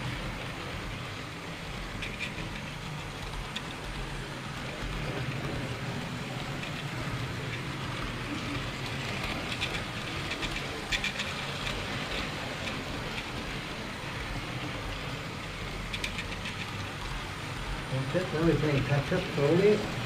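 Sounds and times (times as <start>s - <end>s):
model train wheels on rails: 0.0s - 20.0s.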